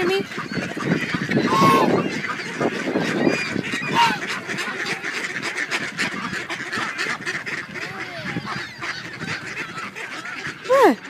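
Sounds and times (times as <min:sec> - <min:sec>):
ducks quacking: 0:00.0 - 0:11.0
geese honking: 0:00.0 - 0:11.0.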